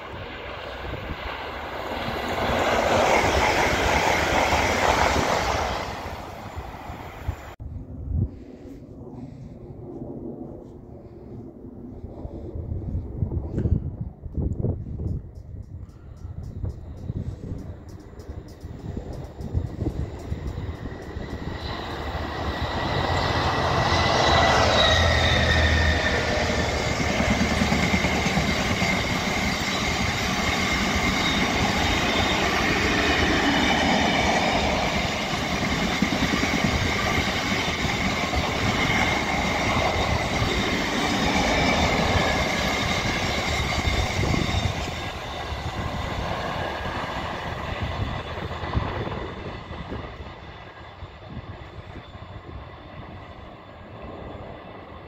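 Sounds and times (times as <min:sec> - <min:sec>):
train wheel and rail noise: 0:00.0 - 0:07.6, 0:11.9 - 0:55.0.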